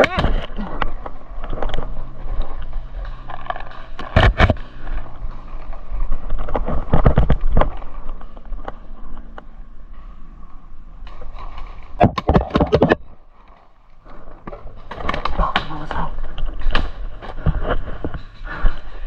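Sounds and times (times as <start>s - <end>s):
handling noise: 0.0s - 19.0s.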